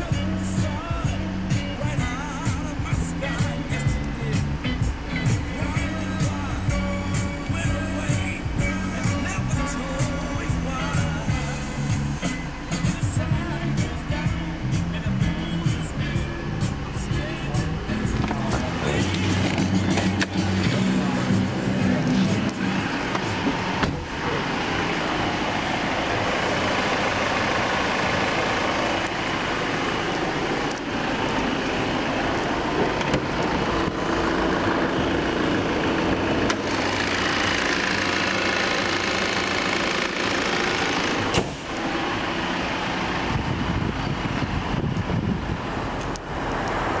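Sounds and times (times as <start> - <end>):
car engine running: 0.0 - 47.0
road noise: 0.0 - 47.0.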